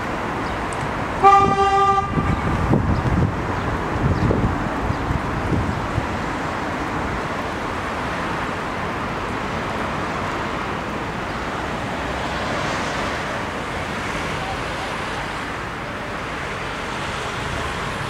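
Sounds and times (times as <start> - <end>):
road traffic passing cars: 0.0 - 18.0
vehicle passing: 1.2 - 18.0.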